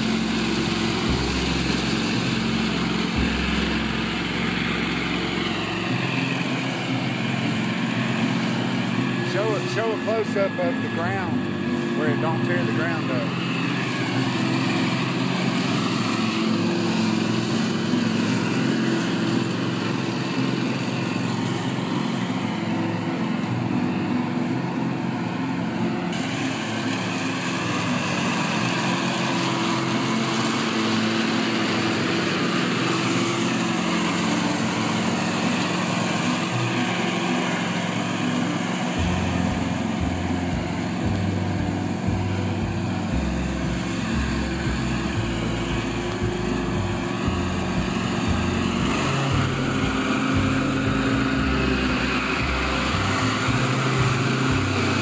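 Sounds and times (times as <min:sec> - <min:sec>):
small petrol engine running: 0:00.0 - 0:55.0.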